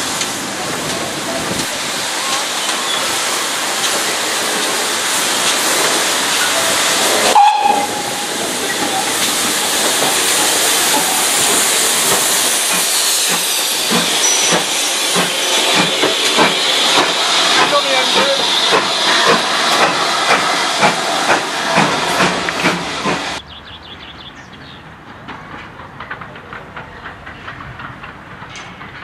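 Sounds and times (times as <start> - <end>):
steam hissing: 0.0 - 23.4
locomotive wheels clanking: 0.2 - 23.4, 24.6 - 29.0.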